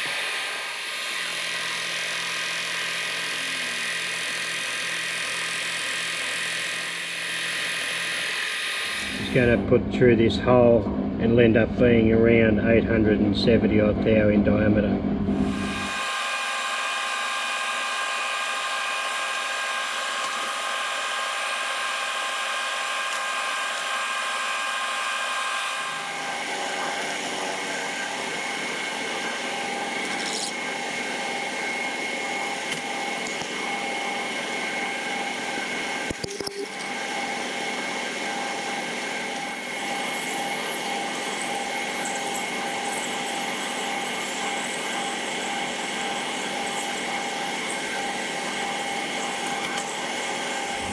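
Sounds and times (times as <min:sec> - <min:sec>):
drill cutting metal: 0:00.0 - 0:09.6, 0:15.4 - 0:50.9
milling machine spindle whine: 0:00.0 - 0:14.2, 0:14.9 - 0:50.9.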